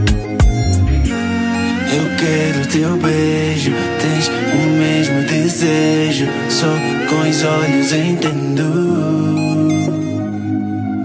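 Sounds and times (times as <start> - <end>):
held chords: 0.0 - 11.0
sliding melody line: 0.0 - 11.0.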